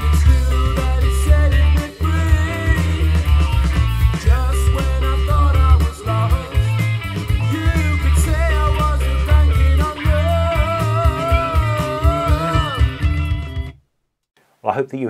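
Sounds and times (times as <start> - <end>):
rock song over loudspeakers: 0.0 - 13.7.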